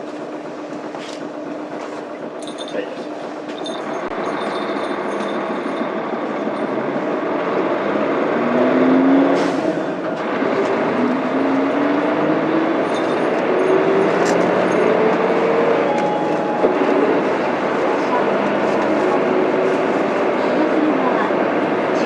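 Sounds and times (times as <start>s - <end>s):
bus diesel engine accelerating: 0.0s - 22.0s.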